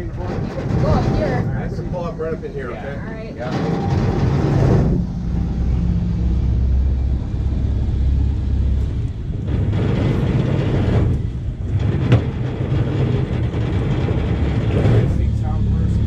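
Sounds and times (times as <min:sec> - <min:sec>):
motorboat engine drone: 0:00.0 - 0:16.0.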